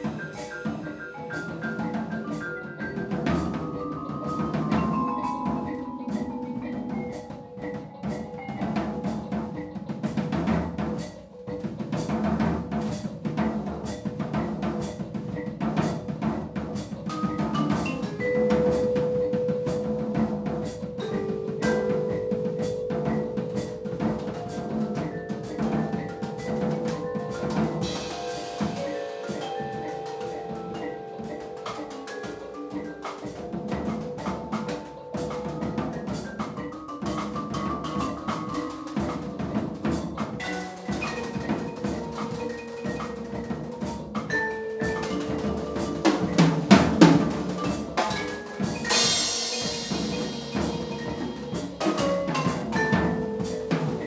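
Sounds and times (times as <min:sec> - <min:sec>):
drum kit playing: 0:00.0 - 0:54.0
vibraphone notes: 0:00.0 - 0:54.0.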